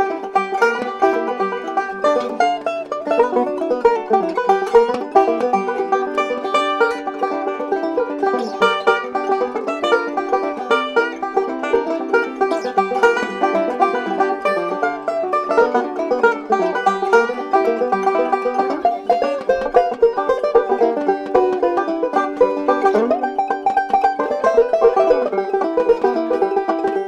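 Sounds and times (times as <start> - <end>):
fast plucked-string instrumental: 0.0 - 27.0.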